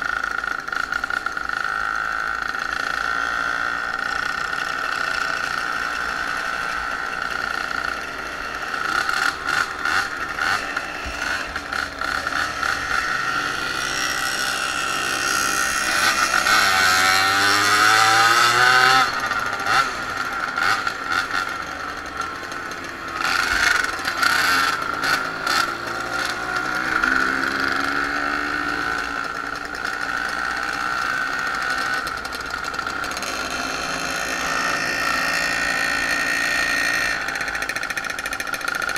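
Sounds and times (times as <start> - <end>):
moped engines buzzing: 0.0 - 38.9.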